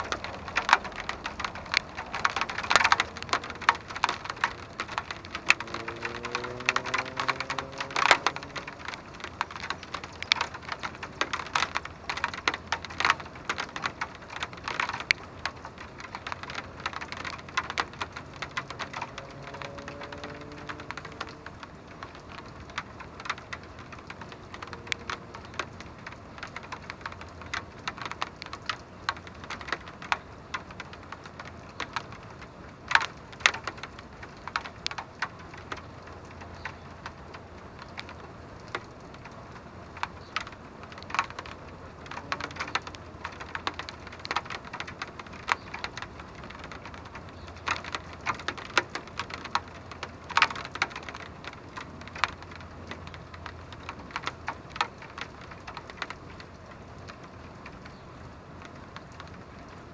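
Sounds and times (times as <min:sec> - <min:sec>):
raindrops tapping close by: 0:00.0 - 0:59.9
steady rain: 0:00.0 - 0:59.9.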